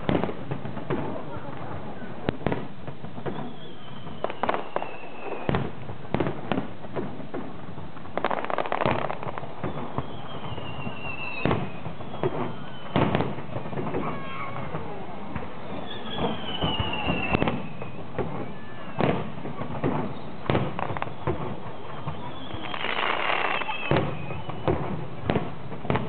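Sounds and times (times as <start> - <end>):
fireworks bangs: 0.0 - 26.0
fireworks crackling pops: 0.0 - 26.0
fireworks whistles falling: 2.0 - 6.7, 8.1 - 14.8, 15.4 - 26.0.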